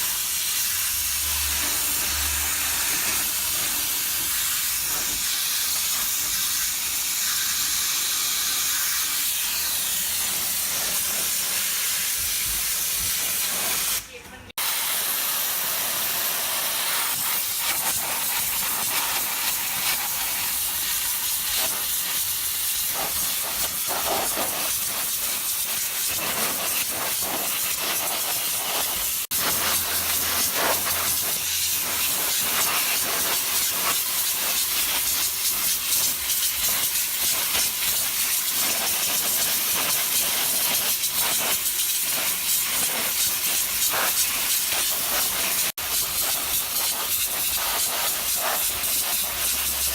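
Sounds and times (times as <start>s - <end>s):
pressure washer jet hissing on metal: 0.0s - 49.9s.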